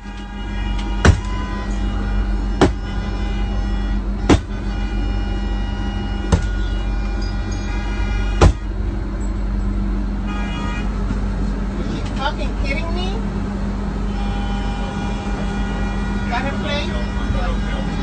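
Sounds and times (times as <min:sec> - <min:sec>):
idling bus engine hum: 0:00.0 - 0:18.0.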